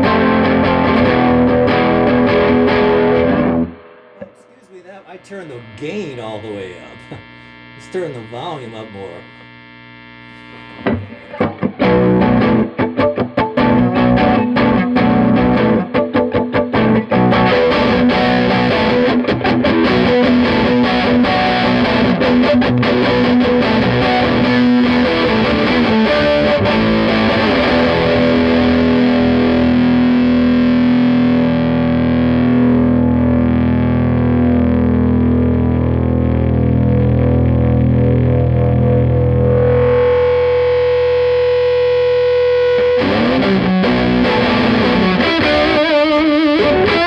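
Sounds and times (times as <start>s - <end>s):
distorted electric guitar: 0.0s - 47.0s.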